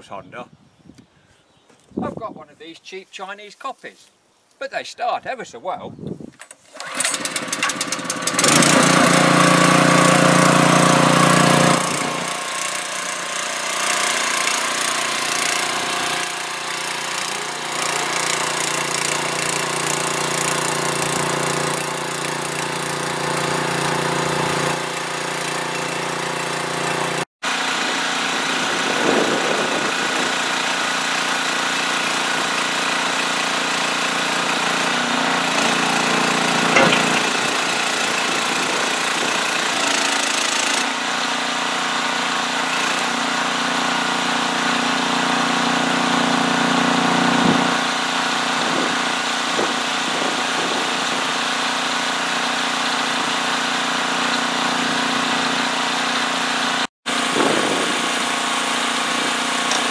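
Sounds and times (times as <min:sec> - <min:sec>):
small petrol engine running: 0:06.6 - 0:59.9.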